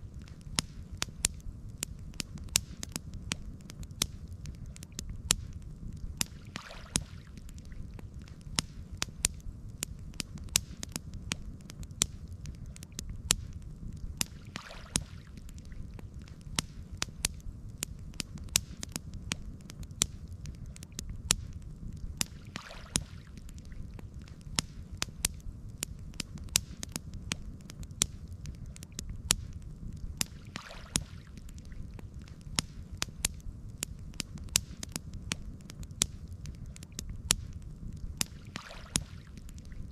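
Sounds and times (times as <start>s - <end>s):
campfire crackling and popping: 0.0s - 39.9s
low fire rumble: 0.0s - 39.9s
soft hiss: 0.0s - 39.9s.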